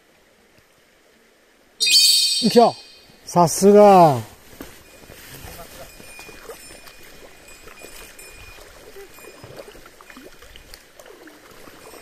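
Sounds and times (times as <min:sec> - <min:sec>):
stream water running and splashing: 0:00.0 - 0:12.0.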